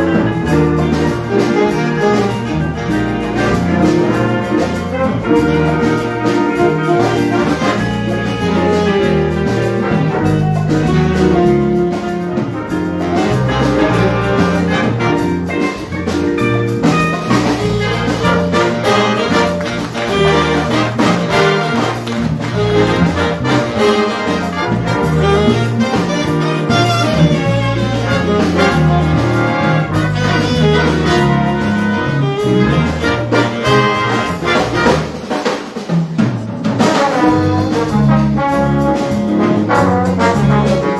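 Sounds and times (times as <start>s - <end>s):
jazz big band playing: 0.0s - 40.9s.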